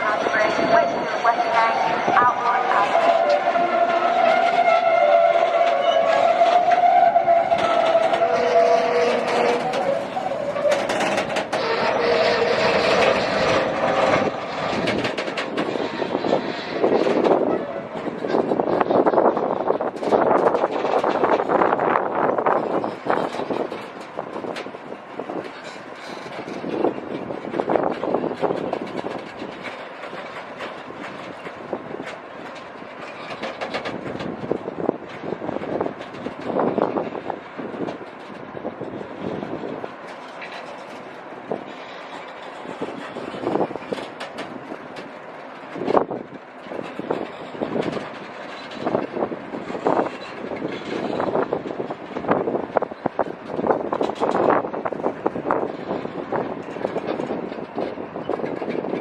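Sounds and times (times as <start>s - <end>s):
train rattling and clattering: 0.0s - 59.0s
train whine: 0.0s - 59.0s.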